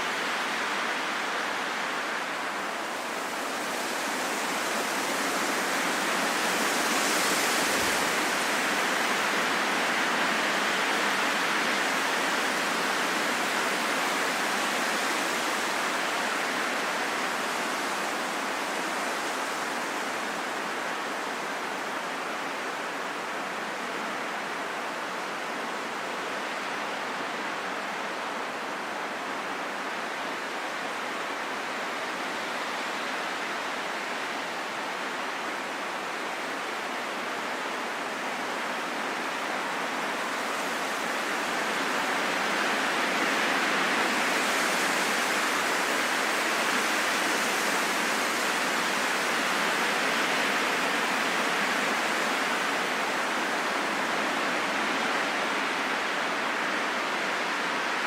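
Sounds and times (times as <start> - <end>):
rain falling in forest: 0.0 - 58.0.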